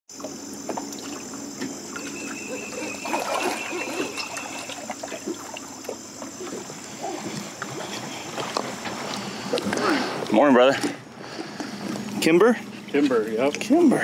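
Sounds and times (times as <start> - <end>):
light water splashes: 0.1 - 11.8
small waves lapping against hull: 0.1 - 13.0
faint high whine: 0.2 - 14.0.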